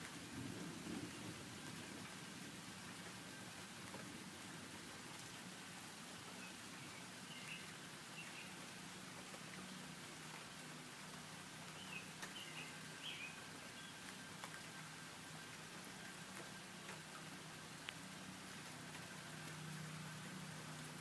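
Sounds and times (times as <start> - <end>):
light rain hiss: 0.0 - 21.0
rain drips ticking: 0.0 - 21.0.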